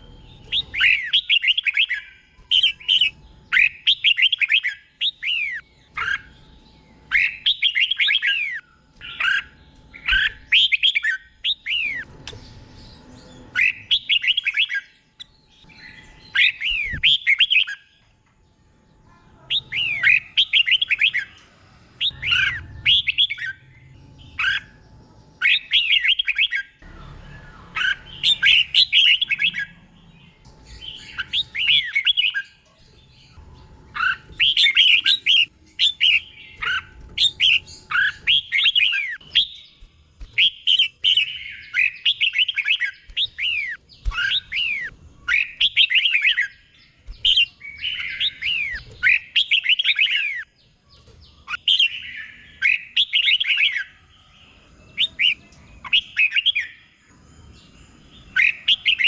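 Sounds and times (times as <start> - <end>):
bird singing whistled song: 0.0 - 12.1, 12.8 - 17.9, 19.5 - 21.4, 22.0 - 24.8, 25.4 - 32.6, 33.2 - 59.0.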